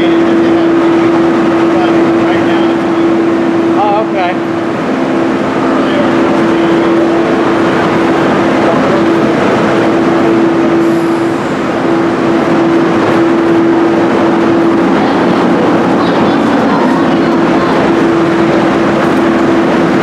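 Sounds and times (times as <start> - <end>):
machinery drone: 0.0 - 20.0.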